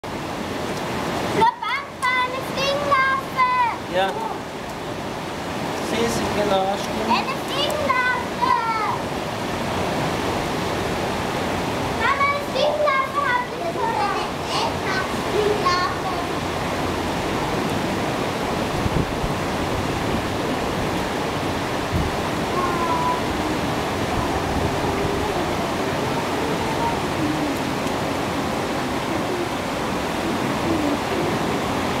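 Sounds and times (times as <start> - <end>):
water rushing and swirling: 0.0 - 32.0.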